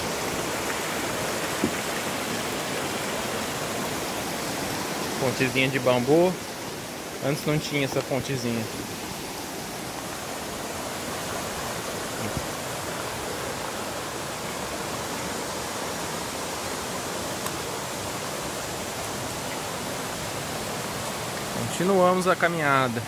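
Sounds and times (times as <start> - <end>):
river flowing over boulders: 0.0 - 23.0.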